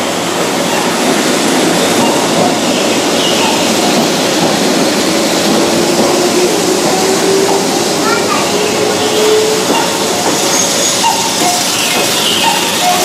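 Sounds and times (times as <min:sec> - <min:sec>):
electric train pulling away: 0:00.0 - 0:13.0.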